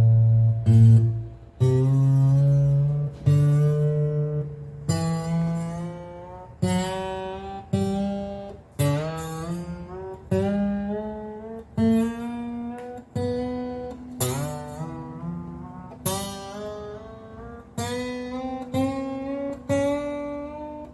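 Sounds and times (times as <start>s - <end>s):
acoustic guitar chords: 0.0s - 20.9s.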